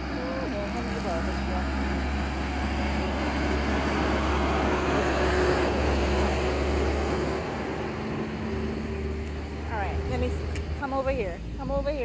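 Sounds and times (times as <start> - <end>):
vehicle driving past: 0.0 - 12.0.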